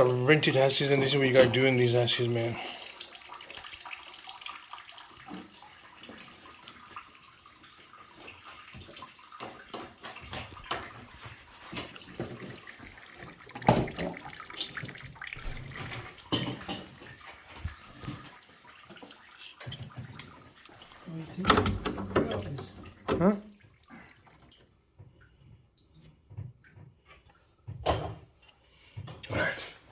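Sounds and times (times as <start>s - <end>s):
water running: 0.0s - 29.9s.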